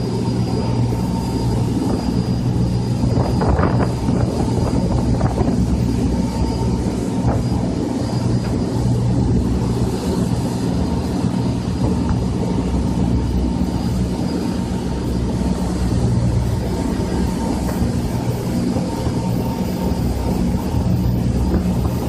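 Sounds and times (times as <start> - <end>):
motorboat engine droning: 0.0 - 22.0
water rushing in boat wake: 0.0 - 22.0.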